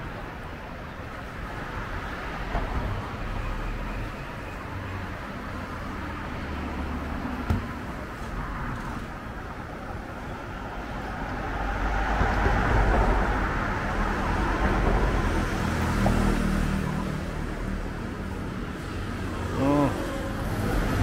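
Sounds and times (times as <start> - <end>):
street noise hum: 0.0 - 21.0.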